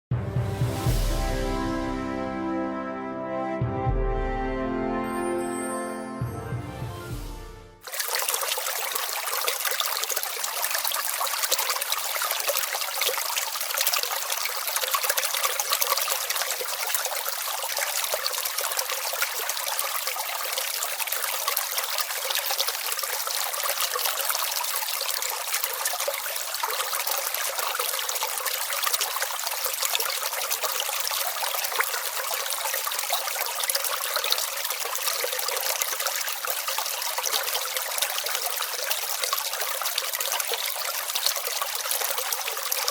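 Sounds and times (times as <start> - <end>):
stream trickling and babbling: 7.8 - 42.9.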